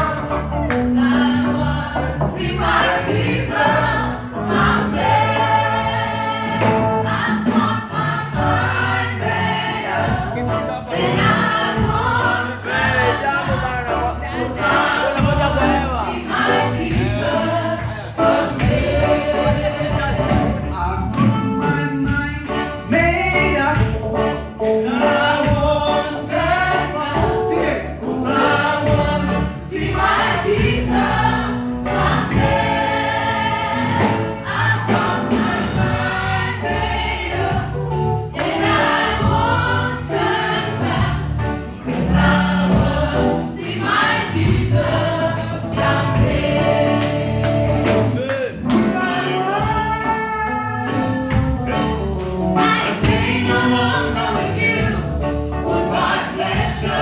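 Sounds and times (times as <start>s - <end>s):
congregation singing gospel song: 0.0s - 57.0s
live band playing: 0.0s - 57.0s.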